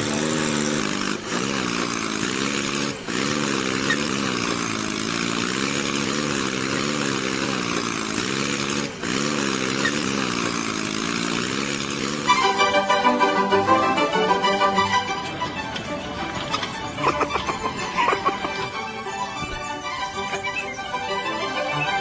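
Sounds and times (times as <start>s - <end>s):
small motor running with hiss: 0.0s - 22.0s.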